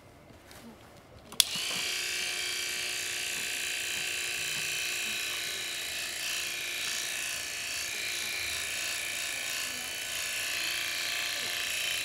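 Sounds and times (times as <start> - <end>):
electric clippers whining: 1.4 - 12.0.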